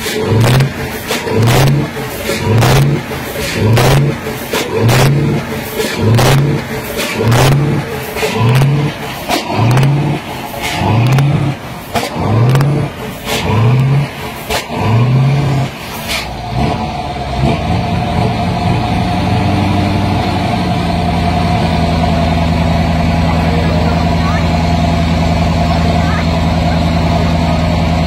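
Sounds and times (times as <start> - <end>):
diesel truck engine revving: 0.0 - 28.0
truck engine idling: 0.0 - 28.0.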